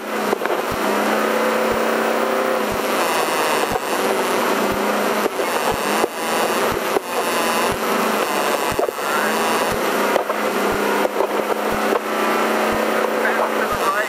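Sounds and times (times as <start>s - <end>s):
truck engine running hard: 0.0s - 14.0s.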